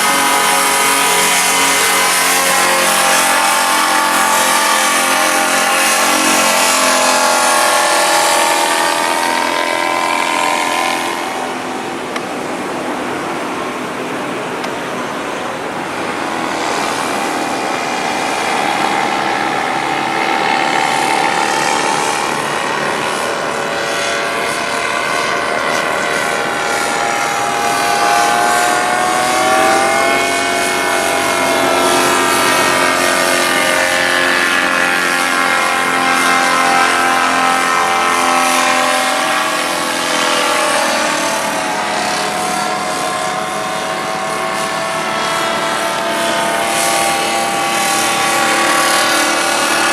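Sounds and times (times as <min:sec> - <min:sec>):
model aircraft motor buzzing: 0:00.0 - 0:49.9.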